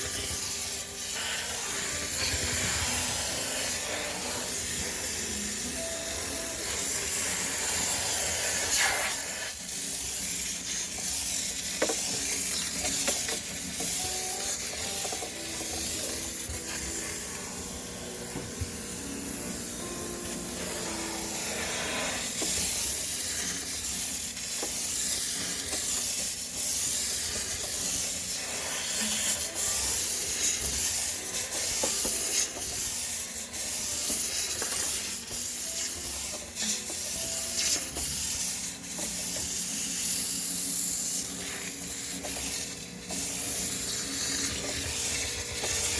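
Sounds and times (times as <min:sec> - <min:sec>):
steam cleaner hissing: 0:00.0 - 0:45.9.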